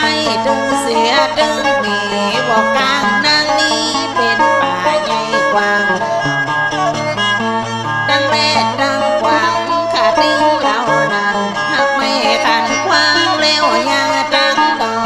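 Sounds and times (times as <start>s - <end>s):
bowed fiddle: 0.0s - 15.0s
plucked lute: 0.0s - 15.0s.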